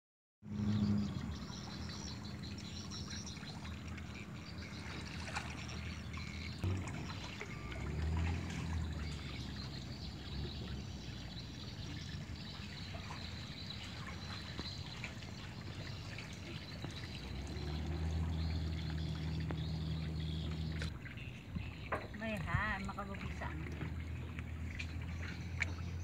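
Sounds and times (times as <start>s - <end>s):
water lapping around canoe: 0.5s - 26.0s.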